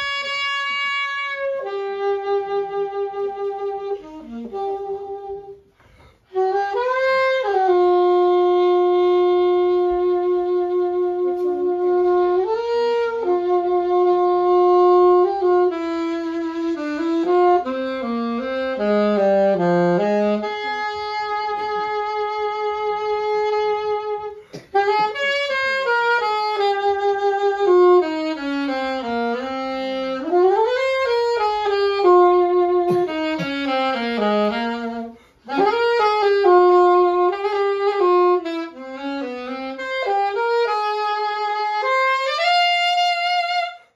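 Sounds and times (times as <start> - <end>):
solo saxophone: 0.0 - 43.9.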